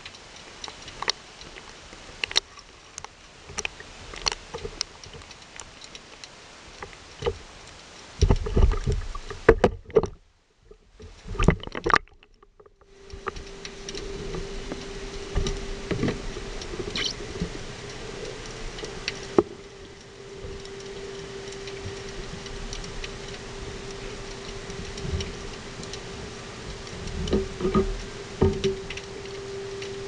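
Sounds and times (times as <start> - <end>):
low underwater hum: 0.0 - 30.0.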